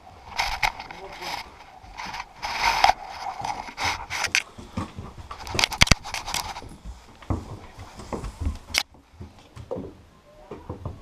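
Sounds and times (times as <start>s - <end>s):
scraping and rubbing: 0.0s - 8.9s.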